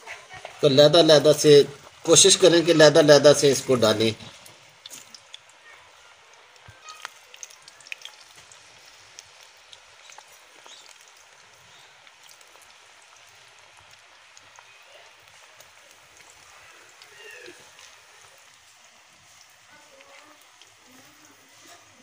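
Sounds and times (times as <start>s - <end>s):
fries sizzling in hot oil: 0.0s - 22.0s.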